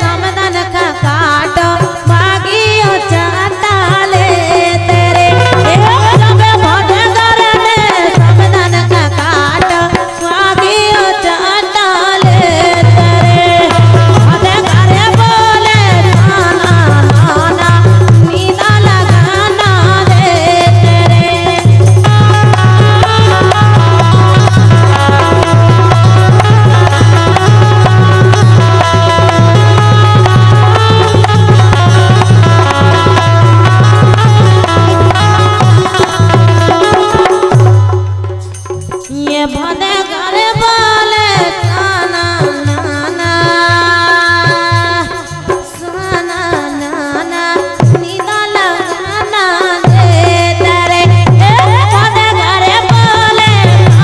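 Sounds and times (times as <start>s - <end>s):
fast hand-drum rhythm: 0.0s - 54.0s
harmonium chords: 0.0s - 54.0s
woman singing into a microphone: 0.0s - 54.0s.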